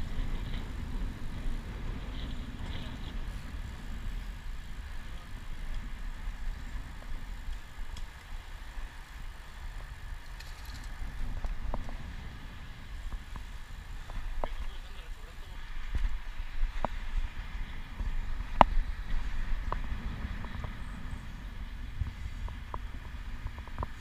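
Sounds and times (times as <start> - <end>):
bicycle tyre noise on pavement: 0.0 - 24.0
wind rumbling on microphone: 0.0 - 24.0.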